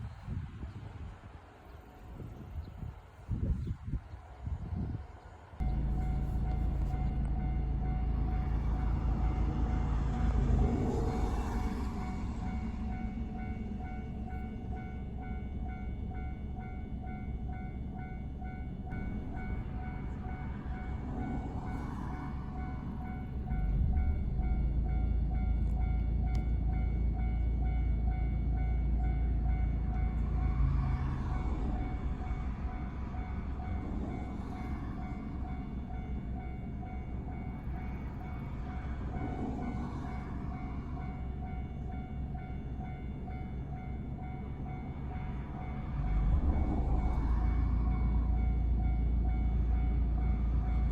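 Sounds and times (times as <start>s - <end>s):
train rumbling on rails: 0.0s - 50.9s.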